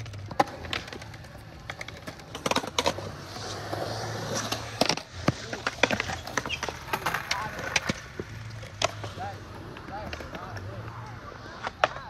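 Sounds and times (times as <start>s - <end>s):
skateboard clicks and knocks: 0.0s - 12.0s
skateboard wheels rolling on concrete: 0.0s - 12.0s.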